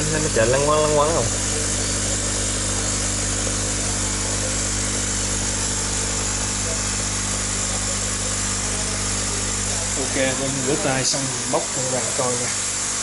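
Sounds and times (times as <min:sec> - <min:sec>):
air pump hiss: 0:00.0 - 0:13.0
electric air pump motor hum: 0:00.0 - 0:13.0.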